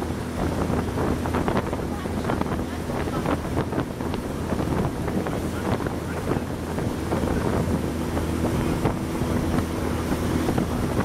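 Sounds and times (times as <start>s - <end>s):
boat motor humming: 0.0s - 11.0s
wind gusts on microphone: 0.0s - 11.0s.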